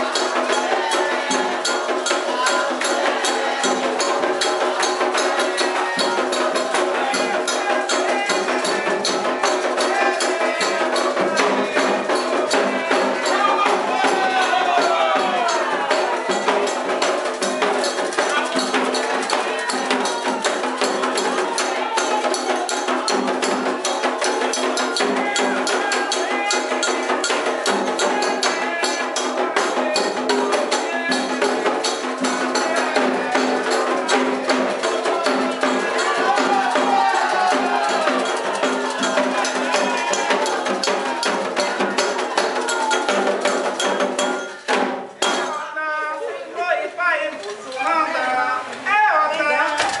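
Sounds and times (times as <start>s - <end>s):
metal bell: 0.0s - 45.5s
fast percussion beat: 0.0s - 45.8s
voices singing: 0.0s - 50.0s.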